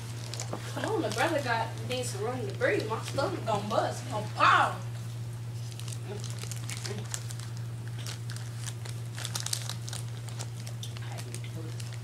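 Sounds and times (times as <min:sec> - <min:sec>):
banana peels crinkling and tearing: 0:00.0 - 0:03.7, 0:05.0 - 0:12.0
steady low hum: 0:00.0 - 0:12.0.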